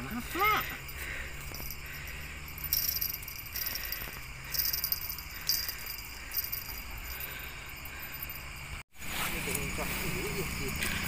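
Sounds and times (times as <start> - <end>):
buzzing insect trills: 0.0 - 11.0
insects trilling: 0.0 - 11.0.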